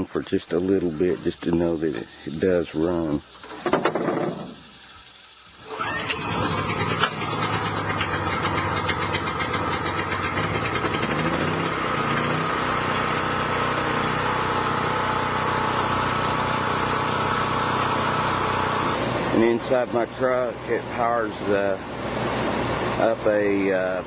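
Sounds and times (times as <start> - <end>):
generator engine running: 0.0 - 24.0.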